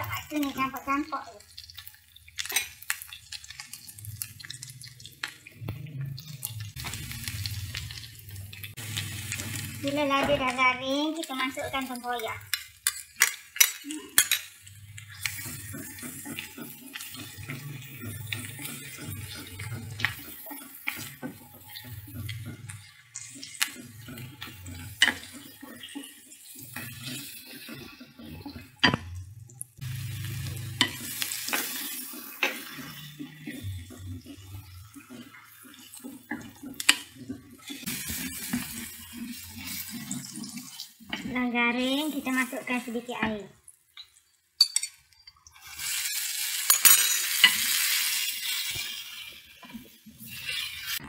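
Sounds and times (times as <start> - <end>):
light sizzle: 0.0 - 51.0.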